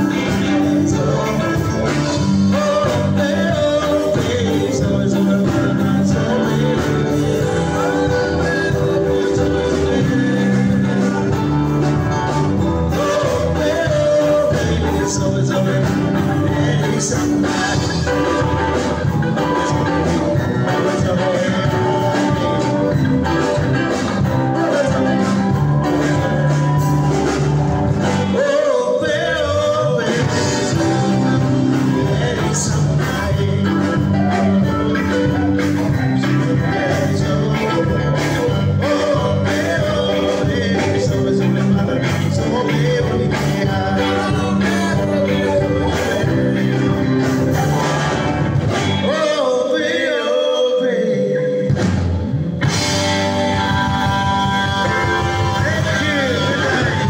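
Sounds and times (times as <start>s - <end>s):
gospel band playing: 0.0s - 57.0s
male vocals: 0.0s - 57.0s
man singing: 0.0s - 57.0s.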